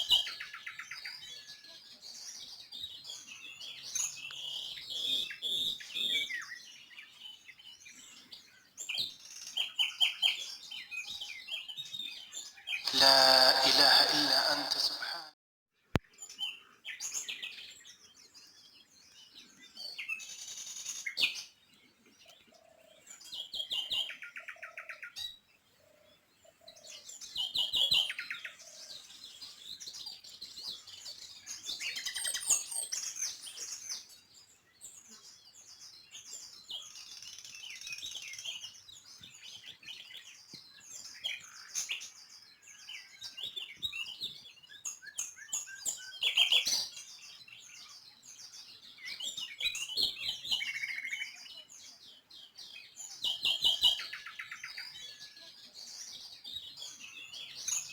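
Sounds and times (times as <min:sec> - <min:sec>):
small birds chirping and twittering: 0:00.0 - 0:14.5, 0:15.8 - 0:57.9.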